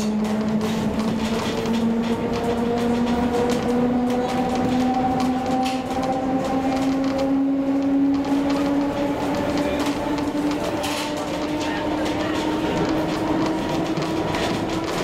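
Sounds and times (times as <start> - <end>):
train running hum: 0.0 - 15.0
wheels rumbling and clicking: 0.0 - 15.0.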